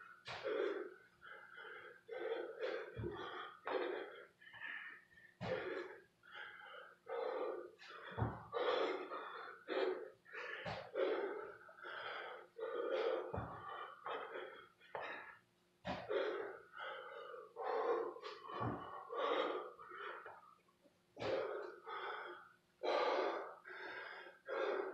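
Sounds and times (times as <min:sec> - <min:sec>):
man breathing heavily: 0:00.0 - 0:24.9.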